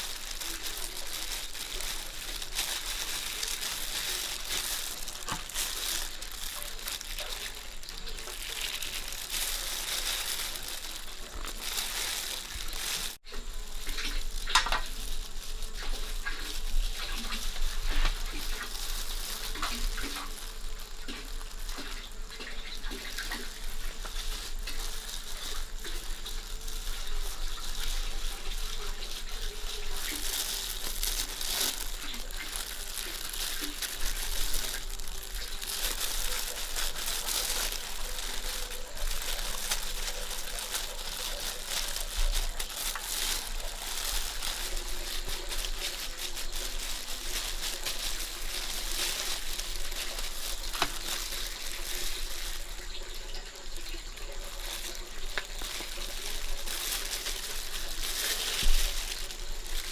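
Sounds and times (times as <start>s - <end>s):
crinkling: 0.0s - 59.9s.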